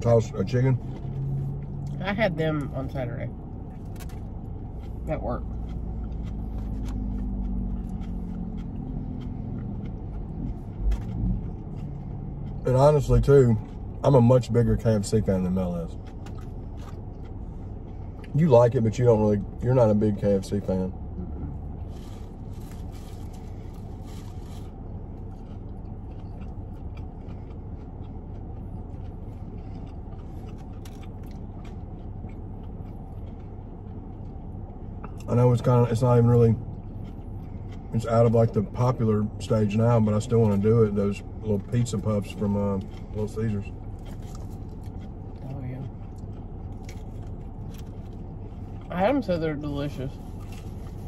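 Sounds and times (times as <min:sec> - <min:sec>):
car idling hum: 0:00.0 - 0:51.0
person chewing food: 0:00.1 - 0:02.0, 0:03.4 - 0:48.9, 0:50.1 - 0:51.0
eating sounds: 0:03.5 - 0:48.9.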